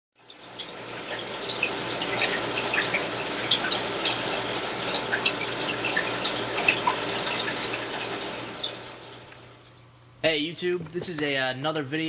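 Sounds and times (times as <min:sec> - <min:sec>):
aquarium water trickling: 0:00.2 - 0:11.4.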